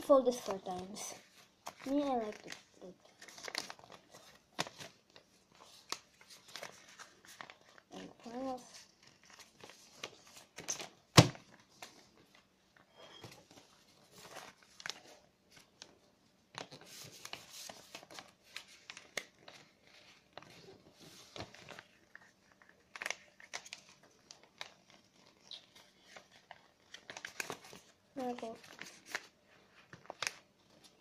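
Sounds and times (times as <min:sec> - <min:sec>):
paper crinkling and rustling: 0:00.0 - 0:31.0.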